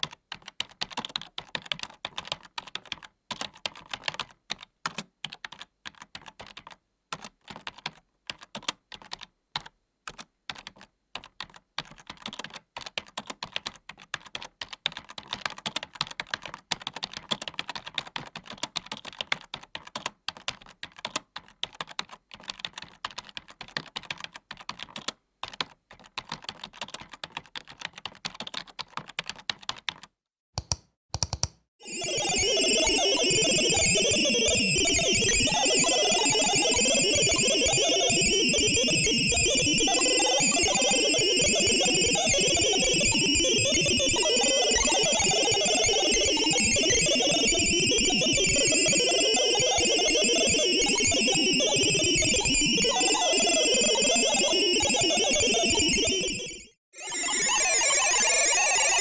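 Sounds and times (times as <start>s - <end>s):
keyboard typing: 0.0s - 59.0s.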